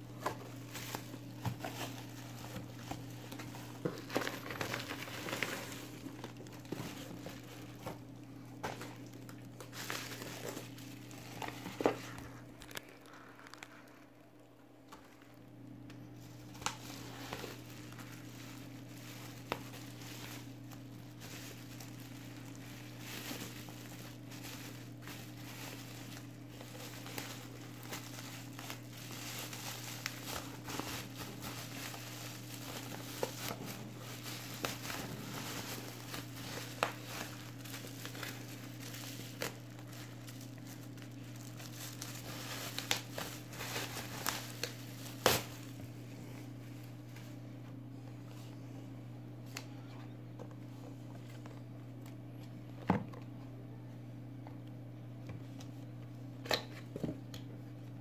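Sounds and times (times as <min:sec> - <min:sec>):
bubble wrap crinkling: 0:00.0 - 0:47.2
steady low hum: 0:00.0 - 0:58.0.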